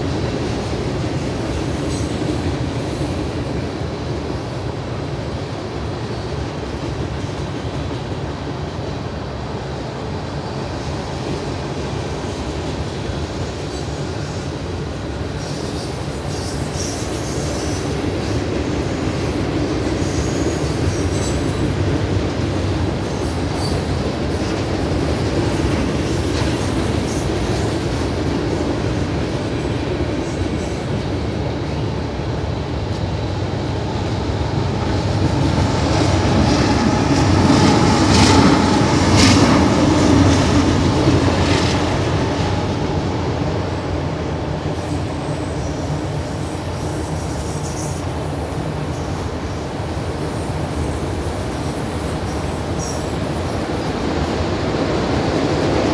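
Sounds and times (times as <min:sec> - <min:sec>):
freight train rumbling on rails: 0:00.0 - 0:55.9.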